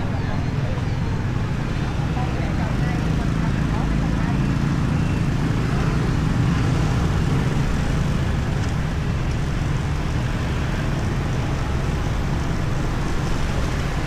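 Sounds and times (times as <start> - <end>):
motorbike engine: 0.0 - 14.0
road and traffic noise: 0.0 - 14.0.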